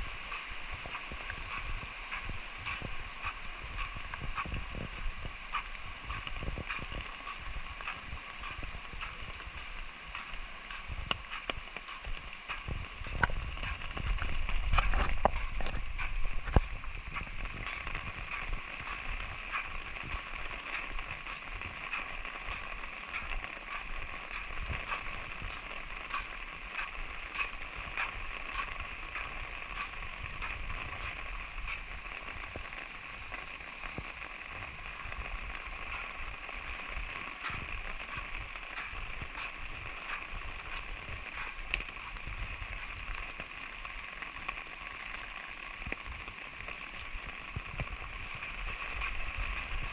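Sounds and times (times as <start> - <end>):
light drizzle: 0.0 - 49.9
raindrops ticking on surfaces: 0.0 - 49.9.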